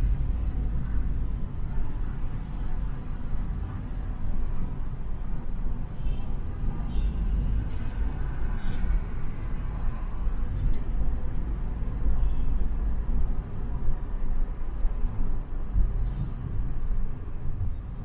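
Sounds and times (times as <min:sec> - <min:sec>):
car driving low rumble: 0:00.0 - 0:18.0
road noise: 0:00.0 - 0:18.0.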